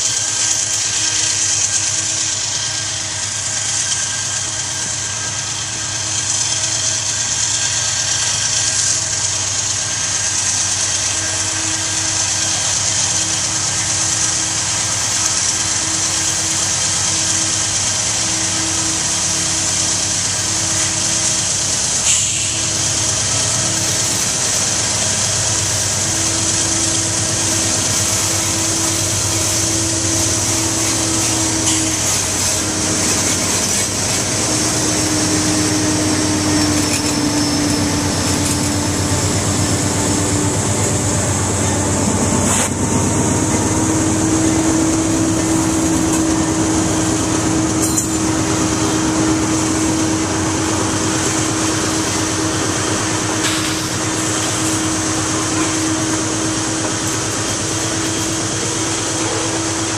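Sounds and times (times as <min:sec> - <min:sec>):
locomotive engine working hard: 0:00.0 - 0:59.9.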